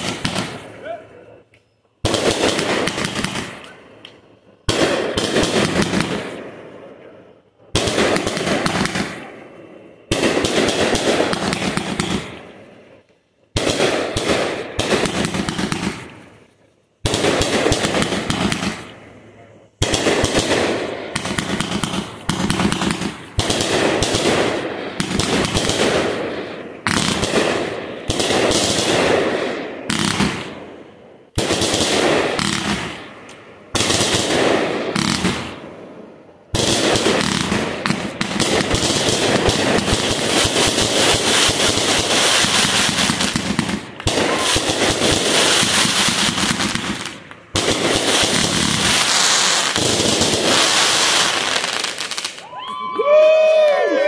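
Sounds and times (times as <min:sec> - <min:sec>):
fireworks bursting and crackling: 0:00.0 - 0:53.7.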